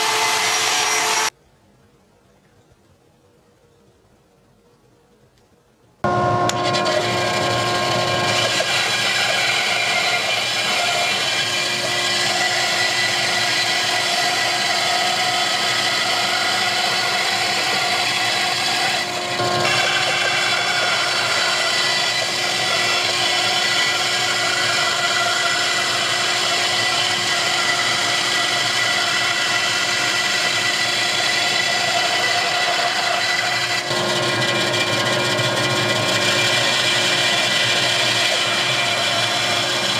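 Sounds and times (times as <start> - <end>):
bandsaw cutting wood: 0.0 - 1.3, 6.1 - 39.9
motor hum: 6.0 - 39.9.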